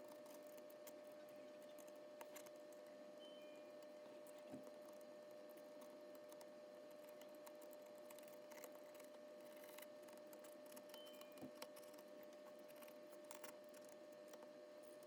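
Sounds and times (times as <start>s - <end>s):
faint small clicks and ticks: 0.0s - 3.0s, 3.7s - 15.0s
faint hum: 0.0s - 15.0s.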